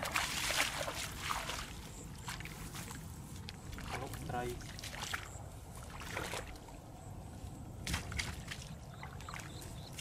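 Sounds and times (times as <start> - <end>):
bare feet squelching through mud: 0.0 - 6.8, 7.7 - 10.0.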